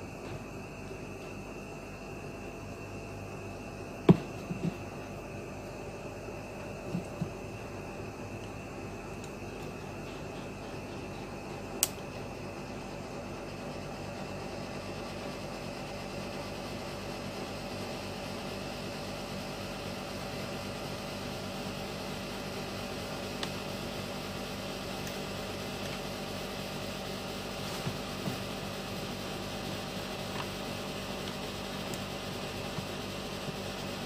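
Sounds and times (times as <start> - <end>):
electrical hum and hiss: 0.0 - 34.0.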